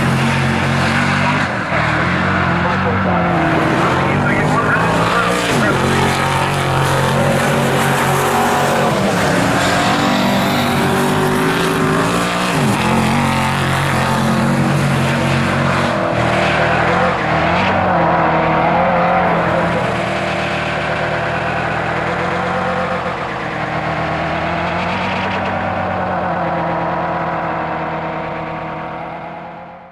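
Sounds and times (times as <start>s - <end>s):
race car engine at full throttle: 0.0s - 29.9s.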